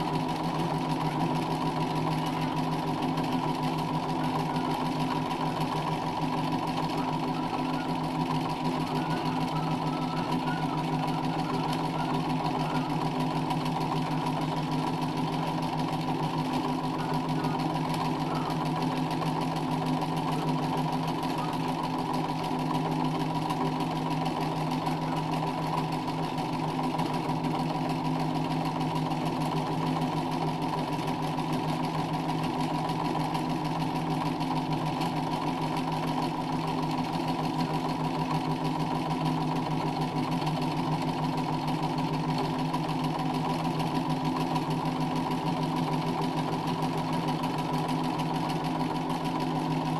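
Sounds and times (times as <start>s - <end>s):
sewing machine running: 0.0s - 49.9s.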